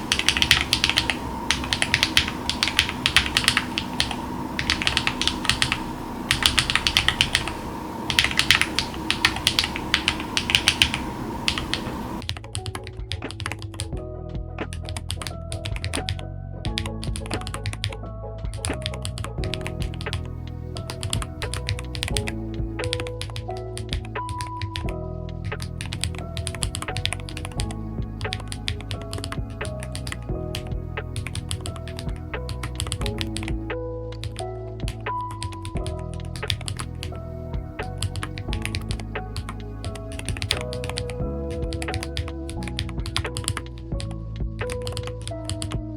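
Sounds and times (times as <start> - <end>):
mechanical keyboard typing: 0.0 - 13.9, 14.7 - 16.2, 16.8 - 24.9, 25.6 - 30.6, 31.2 - 33.6, 34.2 - 37.2, 37.8 - 45.8
background hum: 0.0 - 45.9
background music: 0.0 - 45.9.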